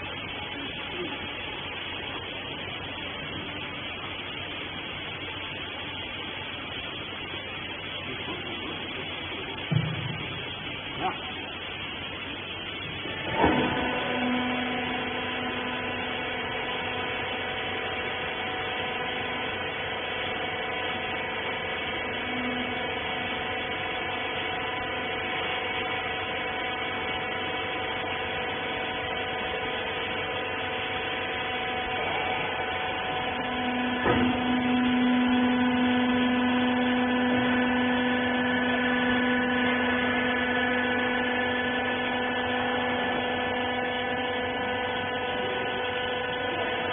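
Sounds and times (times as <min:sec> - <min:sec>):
hydraulic power unit whining: 0:00.0 - 0:46.9.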